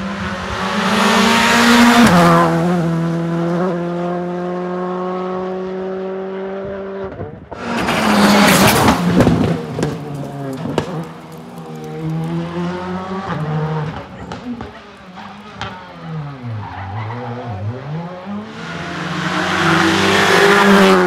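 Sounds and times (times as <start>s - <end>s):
rally car passing at speed: 0.0s - 21.0s.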